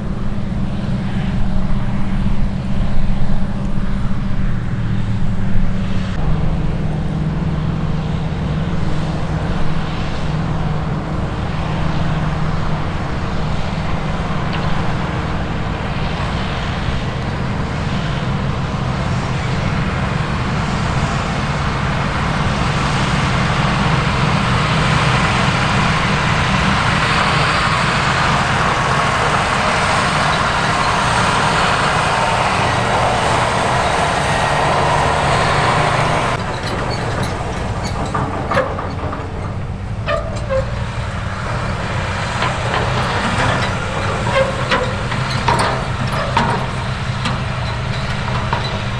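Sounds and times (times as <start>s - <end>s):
diesel engine running: 0.0s - 48.9s
mechanical rushing noise: 6.1s - 48.9s.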